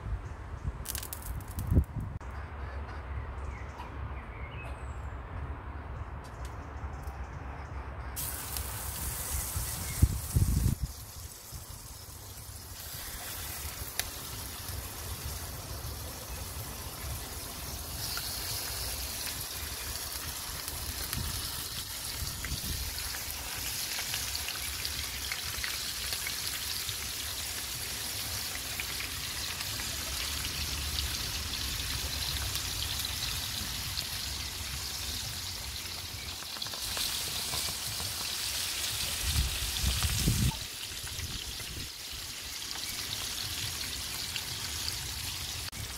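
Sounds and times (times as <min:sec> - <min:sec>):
meat sizzling in a skillet: 0:08.2 - 0:45.7.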